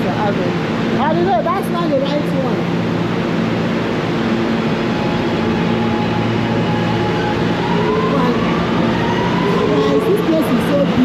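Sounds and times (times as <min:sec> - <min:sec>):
subway train rumble and whine: 0:00.0 - 0:11.0.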